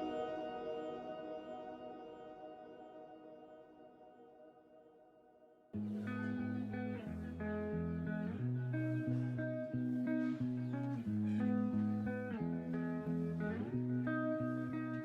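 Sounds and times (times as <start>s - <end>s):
plucked guitar music: 0.0s - 3.3s, 5.8s - 15.0s.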